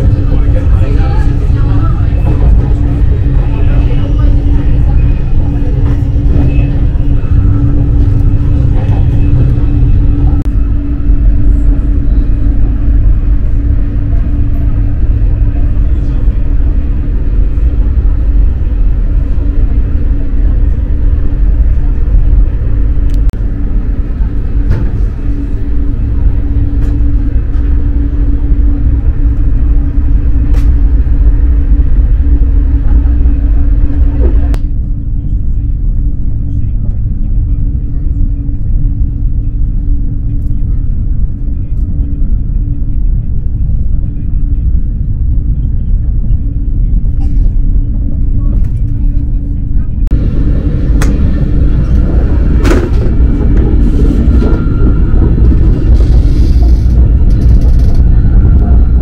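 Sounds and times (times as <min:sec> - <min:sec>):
electric train rumble: 0:00.0 - 0:59.0.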